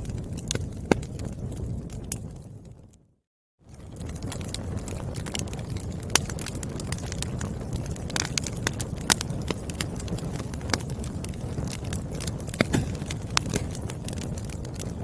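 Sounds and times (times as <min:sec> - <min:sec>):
firewood crackling: 0:00.0 - 0:03.0, 0:03.6 - 0:15.0.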